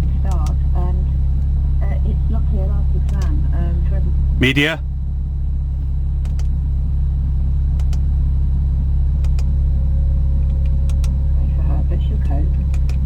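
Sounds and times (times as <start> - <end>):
car engine idling low hum: 0.0 - 13.0.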